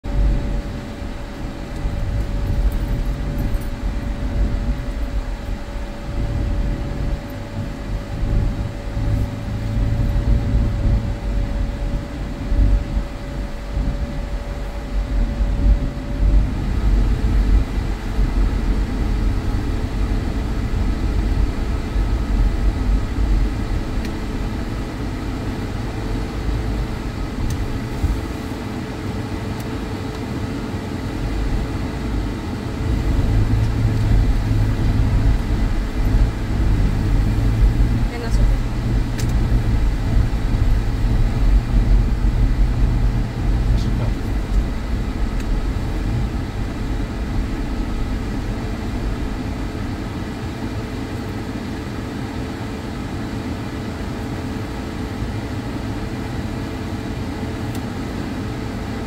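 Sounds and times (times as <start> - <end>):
car engine and tyres rumbling: 0.0 - 59.0
faint steady whine: 0.0 - 59.0.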